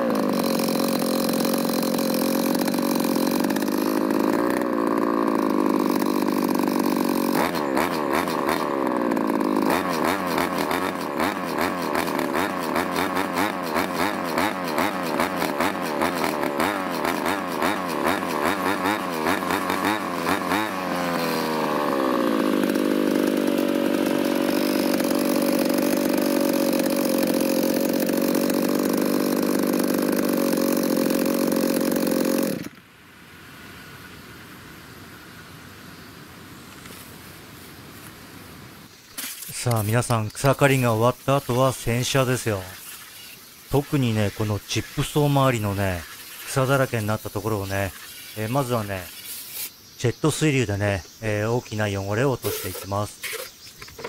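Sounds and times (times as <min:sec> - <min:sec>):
two-stroke brush cutter engine revving: 0:00.0 - 0:32.8, 0:39.1 - 0:49.7, 0:50.4 - 0:54.0.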